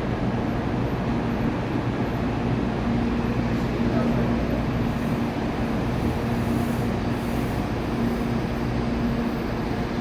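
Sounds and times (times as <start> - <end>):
train rushing with low hum: 0.0 - 10.0.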